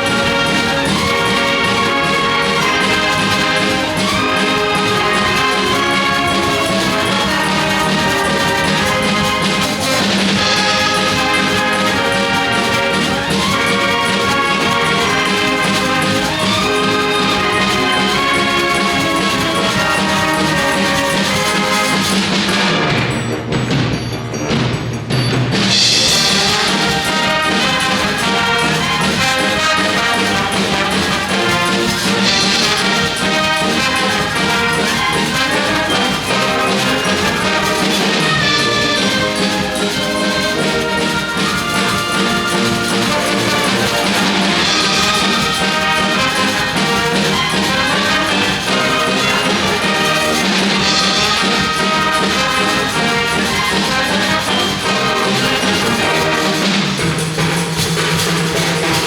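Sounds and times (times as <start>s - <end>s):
steady driving beat: 0.0s - 22.8s, 25.6s - 59.0s
wind band playing: 0.0s - 23.5s, 25.6s - 59.0s
trumpets and trombones: 0.0s - 23.6s, 25.5s - 59.0s.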